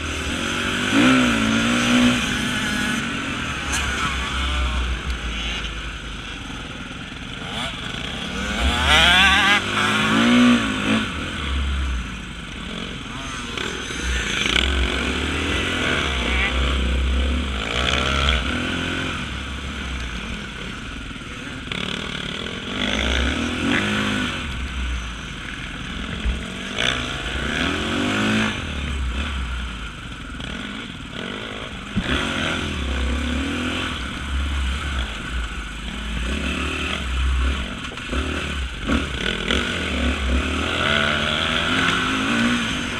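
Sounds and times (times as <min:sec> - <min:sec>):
off-road motorcycle engine revving: 0:00.0 - 0:42.9.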